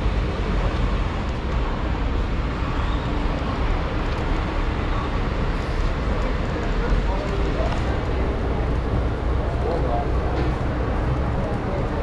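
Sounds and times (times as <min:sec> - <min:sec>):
traffic-like rumble and hiss: 0:00.0 - 0:12.0.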